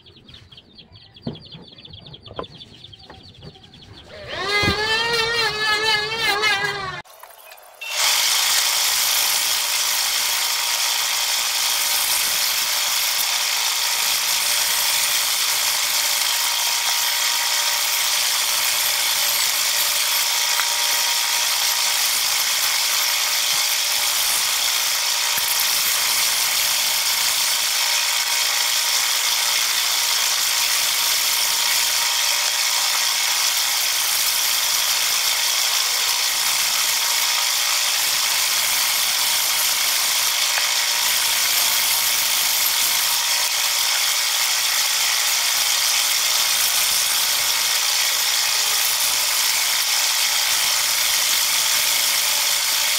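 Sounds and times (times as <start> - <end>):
band saw cutting wood: 1.2 - 52.9.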